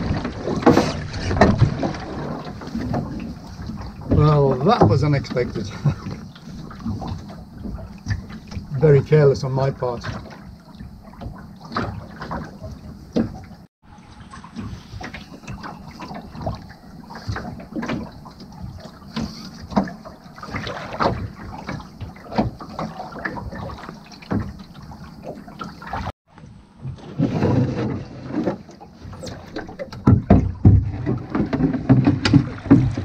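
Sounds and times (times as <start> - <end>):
boat rigging knocks: 0.0 - 8.8, 9.8 - 13.6, 14.4 - 33.0
water lapping against boat hull: 0.0 - 33.0.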